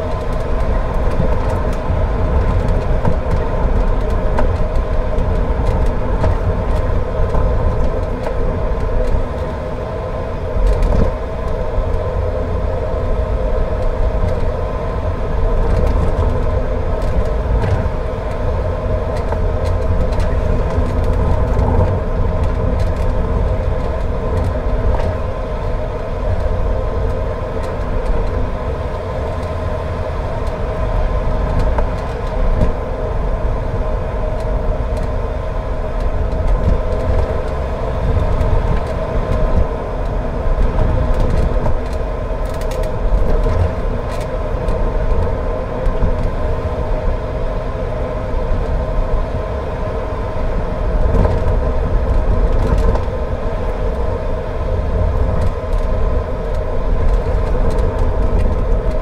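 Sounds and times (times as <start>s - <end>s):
car engine and tyre rumble: 0.0s - 59.0s
constant hum: 0.0s - 59.0s.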